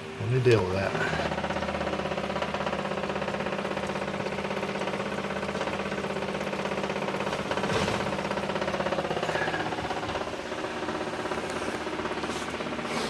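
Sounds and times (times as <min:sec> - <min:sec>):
small pump pulsing hum: 0:00.0 - 0:13.0.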